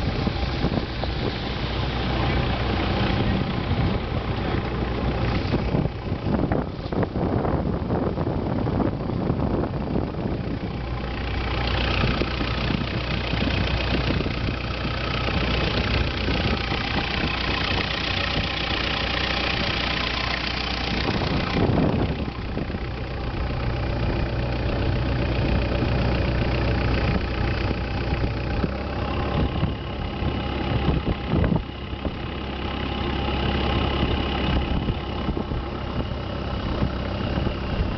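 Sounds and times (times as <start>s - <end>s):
boat engine running: 0.0s - 37.9s
rush of wind and water: 0.0s - 37.9s.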